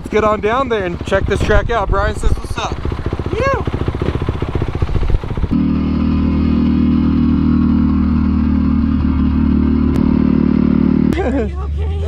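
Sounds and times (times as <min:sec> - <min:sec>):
dirt bike engine running: 0:00.0 - 0:11.5.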